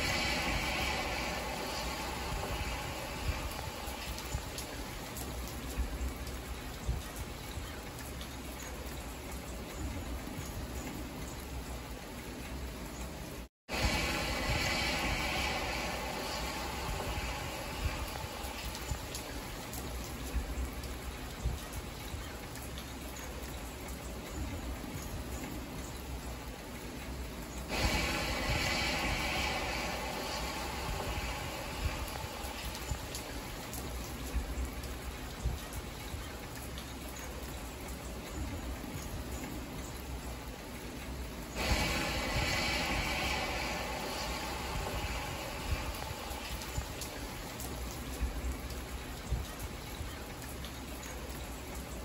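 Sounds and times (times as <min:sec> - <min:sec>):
road rumble: 0:00.0 - 0:08.2, 0:09.0 - 0:49.9
rain and tyres on wet road: 0:00.0 - 0:52.0.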